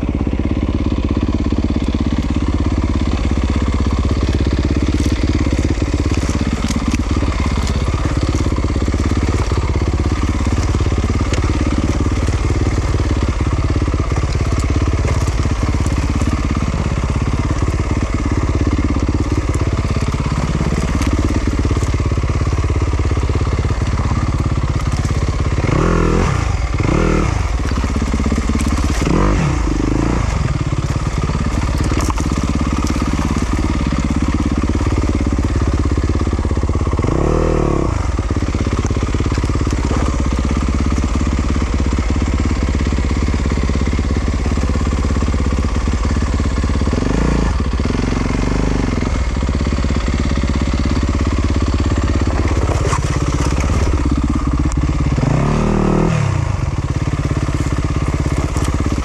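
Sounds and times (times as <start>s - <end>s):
bike clattering over rough ground: 0.0s - 48.0s, 48.6s - 56.1s, 56.7s - 59.0s
dirt bike engine revving: 0.0s - 59.0s.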